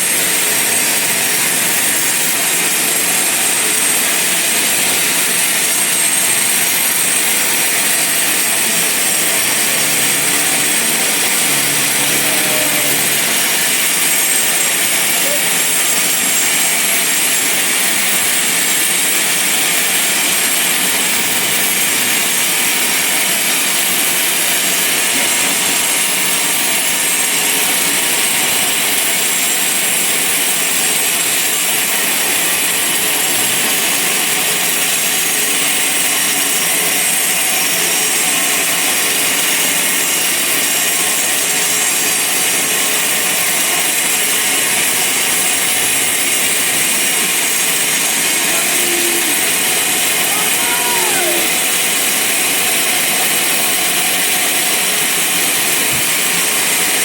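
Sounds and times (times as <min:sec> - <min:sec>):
bandsaw cutting log: 0:00.0 - 0:57.0.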